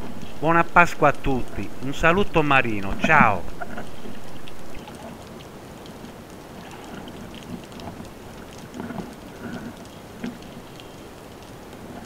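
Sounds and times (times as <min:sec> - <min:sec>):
faint underwater clicks and crackles: 0:00.0 - 0:12.0
underwater sea wash: 0:00.0 - 0:12.0.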